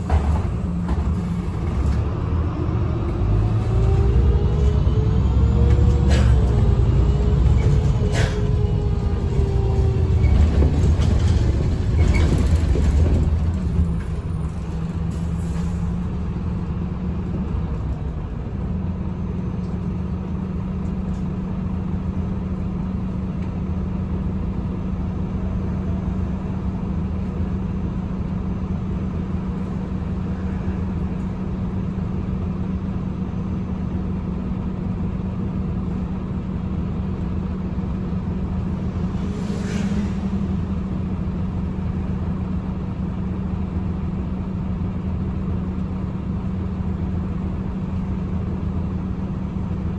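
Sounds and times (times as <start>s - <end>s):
bus slowing down: 0.0s - 49.9s.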